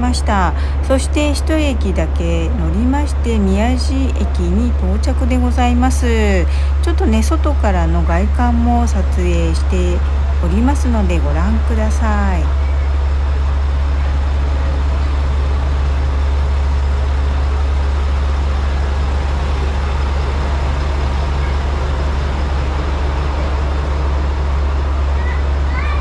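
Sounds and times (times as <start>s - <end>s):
diesel engines idling: 0.0s - 26.0s.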